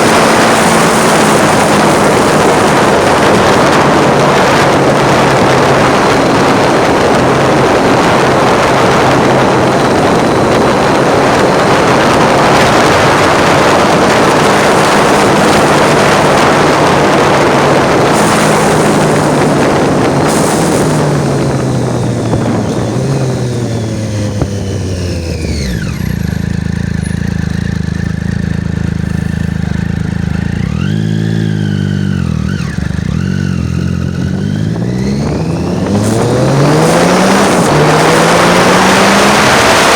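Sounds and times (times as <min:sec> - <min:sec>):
motorcycle engine: 0:00.0 - 0:39.9
wind buffeting microphone: 0:00.0 - 0:39.9.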